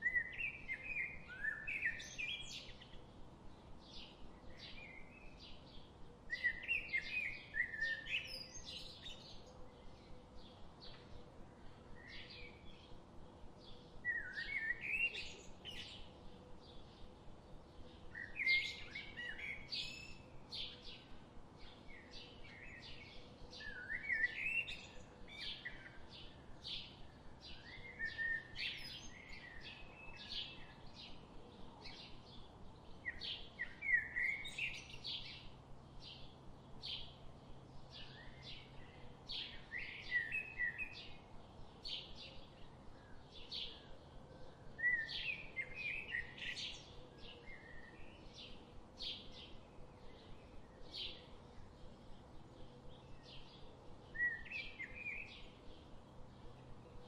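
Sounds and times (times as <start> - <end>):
bird warbling song: 0.0 - 3.2, 3.8 - 11.2, 13.6 - 17.1, 17.7 - 57.0.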